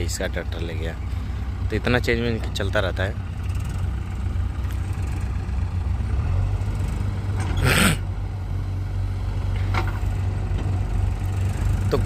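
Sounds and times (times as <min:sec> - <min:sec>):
tractor engines droning: 0:00.0 - 0:12.0.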